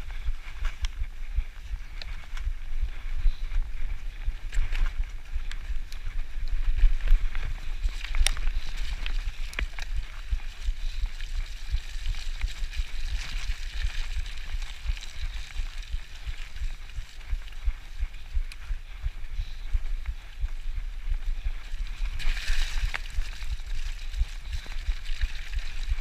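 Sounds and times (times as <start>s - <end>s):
wind rumble on microphone: 0.0s - 26.0s
bike clicks and rattles: 0.1s - 20.3s, 21.1s - 26.0s
tyres on dirt: 4.1s - 26.0s.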